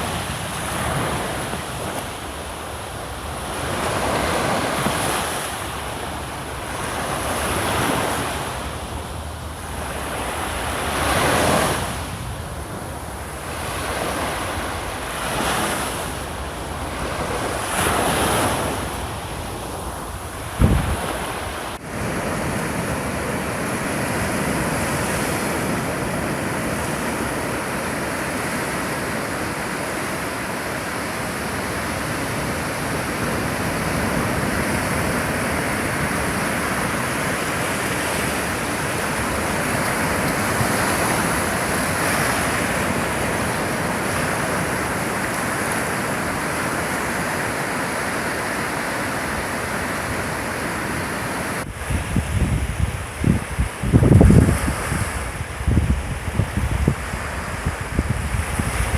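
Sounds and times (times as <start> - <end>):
surf breaking on beach: 0.0 - 58.9.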